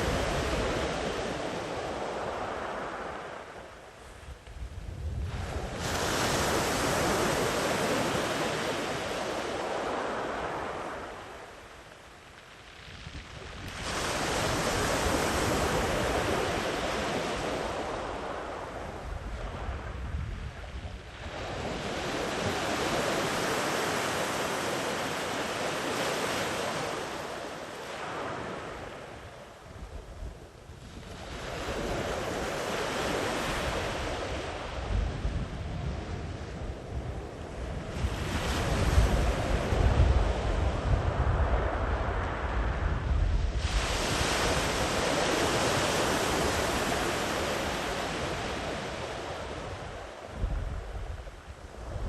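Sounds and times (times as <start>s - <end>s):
waves breaking on a beach: 0.0s - 52.0s.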